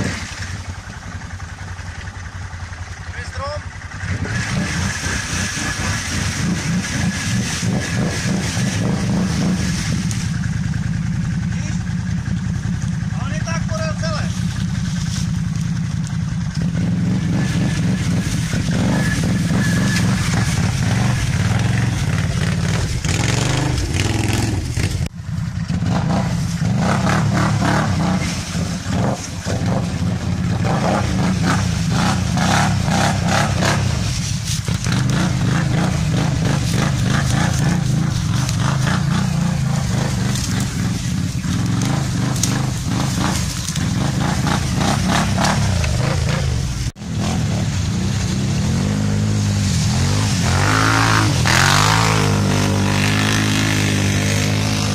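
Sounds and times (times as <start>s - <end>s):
splashing through mud and water: 0.0s - 1.1s, 4.2s - 10.4s, 14.4s - 25.1s, 25.8s - 54.9s
quad engine revving: 0.0s - 1.7s, 3.1s - 54.9s.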